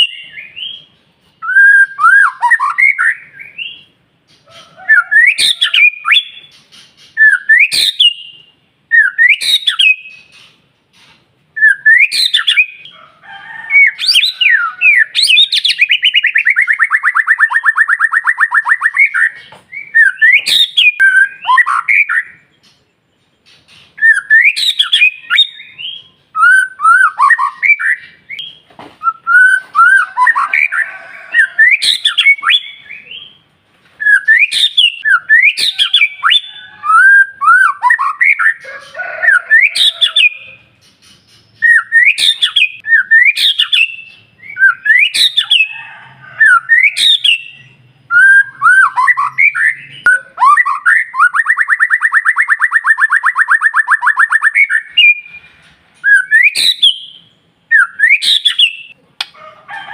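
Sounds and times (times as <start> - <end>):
bird singing whistled phrases: 0.0 - 3.9, 4.9 - 6.6, 7.2 - 10.4, 11.6 - 12.9, 13.8 - 22.4, 24.0 - 30.7, 31.4 - 33.4, 34.0 - 38.6, 41.5 - 45.7, 46.5 - 55.4, 56.0 - 58.9.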